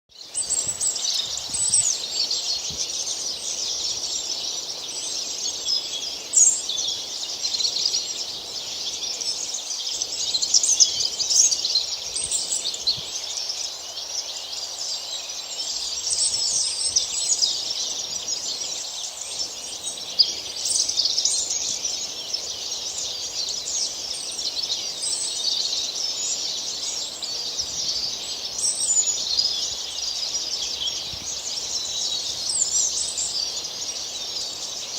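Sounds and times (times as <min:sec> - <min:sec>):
small birds chirping chorus: 0:00.1 - 0:34.9.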